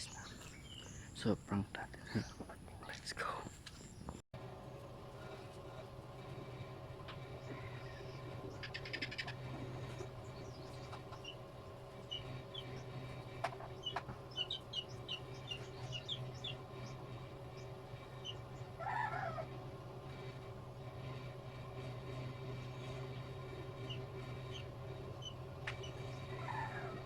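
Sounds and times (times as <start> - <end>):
small birds chirping: 0.0 - 4.2, 5.2 - 27.0
steady low hum: 0.0 - 27.0.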